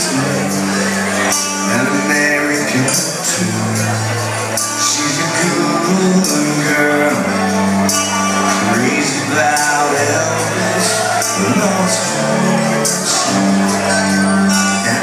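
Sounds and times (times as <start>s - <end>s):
person singing: 0.0s - 15.0s
rock band playing: 0.0s - 15.0s.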